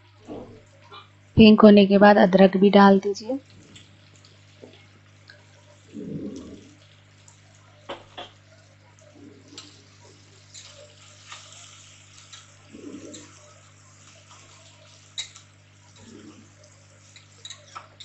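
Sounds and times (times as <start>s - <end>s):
vegetables sizzling in oil: 3.2s - 18.0s.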